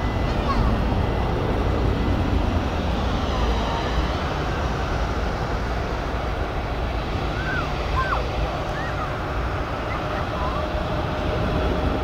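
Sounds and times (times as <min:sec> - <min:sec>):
faint engine whine: 0:00.0 - 0:12.0
jet engines rumbling: 0:00.0 - 0:12.0.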